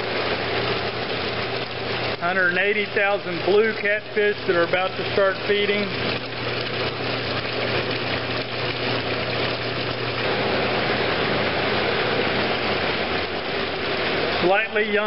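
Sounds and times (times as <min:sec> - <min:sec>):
low machinery hum: 0:00.0 - 0:15.0
water running and splashing: 0:00.0 - 0:15.0.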